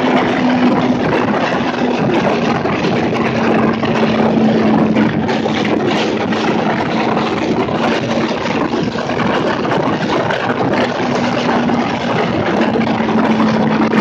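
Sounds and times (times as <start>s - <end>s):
motorcycle engine: 0.0s - 14.0s
wind rushing: 0.0s - 14.0s.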